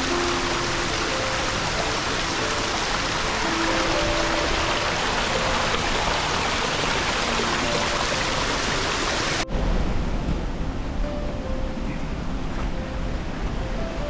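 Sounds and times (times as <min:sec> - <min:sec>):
rushing water: 0:00.0 - 0:11.6
faint music: 0:00.0 - 0:14.0.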